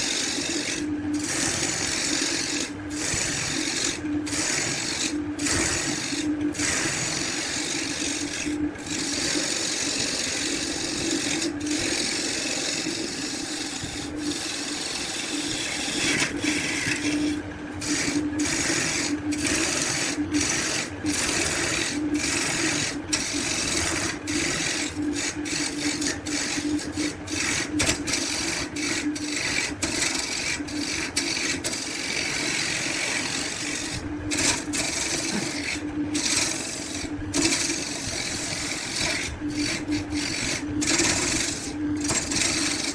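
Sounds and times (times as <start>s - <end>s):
tool rasping wood: 0.0s - 42.9s.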